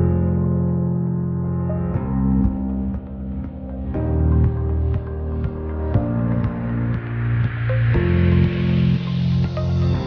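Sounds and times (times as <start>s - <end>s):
background music with steady beat: 1.7s - 10.0s.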